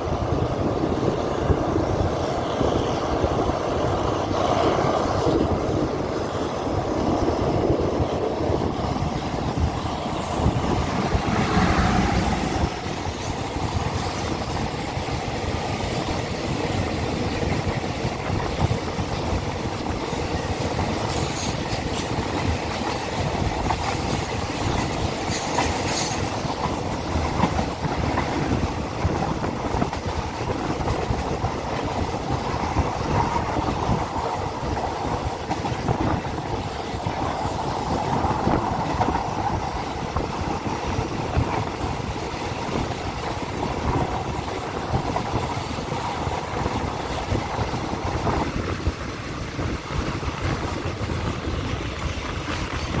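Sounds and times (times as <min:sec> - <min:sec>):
freight train passing: 0:00.0 - 0:53.0
train wheels rumbling on rail: 0:00.0 - 0:53.0.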